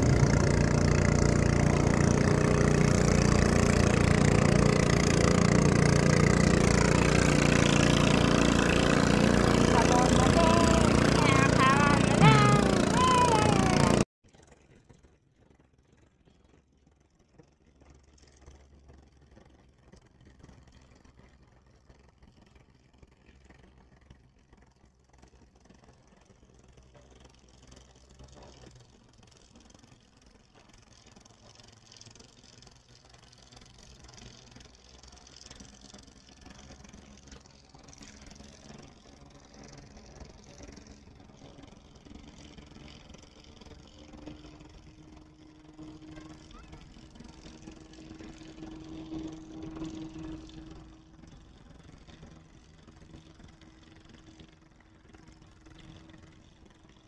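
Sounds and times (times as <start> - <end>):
low engine hum: 0.0 - 14.1, 16.0 - 57.0.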